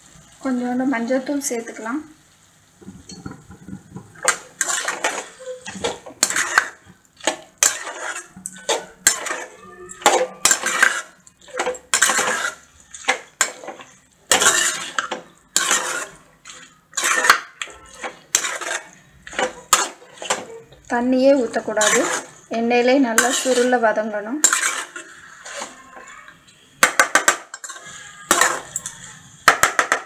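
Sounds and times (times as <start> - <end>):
metal spoon scraping metal pan: 3.1 - 30.0.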